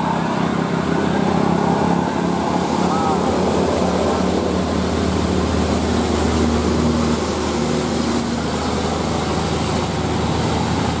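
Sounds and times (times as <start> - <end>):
broad rushing noise: 0.0 - 11.0.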